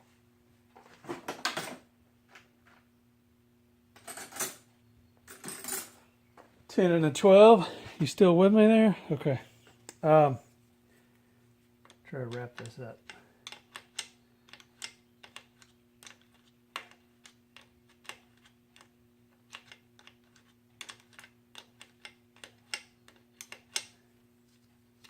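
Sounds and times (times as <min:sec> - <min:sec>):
steady low hum: 0:01.8 - 0:25.0.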